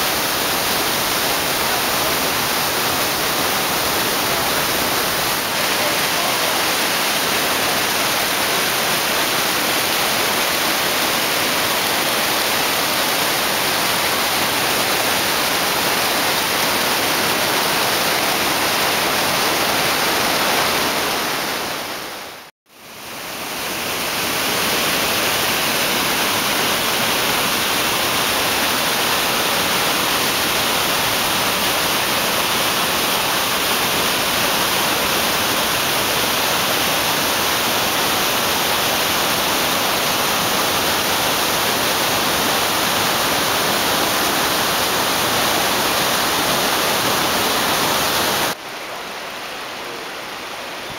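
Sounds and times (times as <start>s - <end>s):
whitewater rapids rushing: 0.0s - 50.9s.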